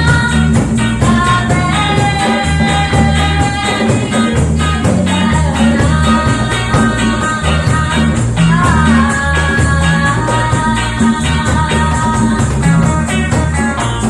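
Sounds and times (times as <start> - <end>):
bass line: 0.0 - 14.0
live band playing reggae: 0.0 - 14.0
person singing: 0.0 - 14.0.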